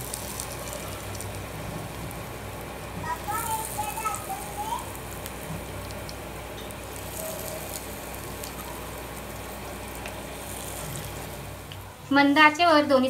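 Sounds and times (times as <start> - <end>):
frying in oil sizzle: 0.0 - 12.6.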